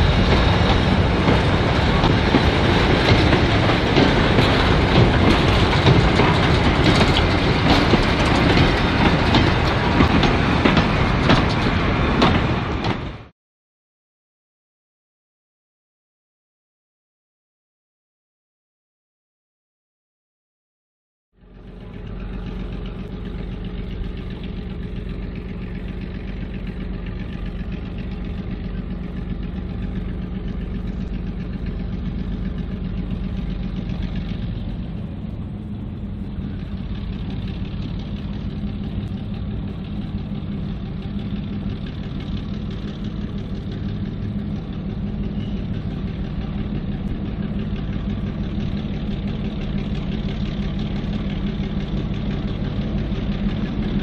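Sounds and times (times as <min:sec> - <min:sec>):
diesel locomotive engine running: 0:00.0 - 0:13.3, 0:21.4 - 0:54.0.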